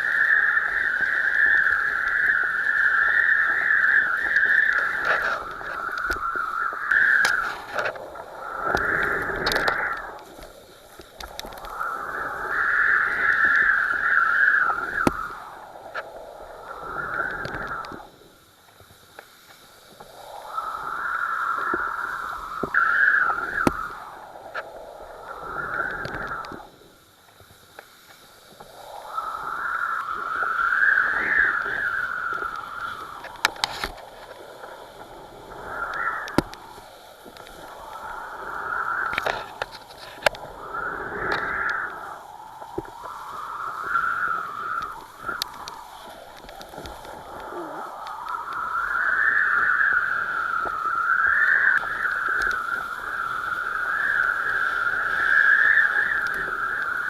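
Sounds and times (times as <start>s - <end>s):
rushing water: 0.0s - 57.0s
rushing wind: 0.0s - 57.0s.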